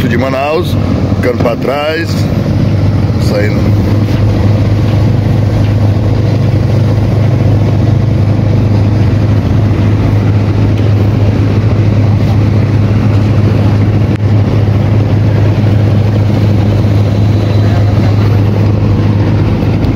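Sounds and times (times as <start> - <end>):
boat engine humming: 0.0 - 19.9.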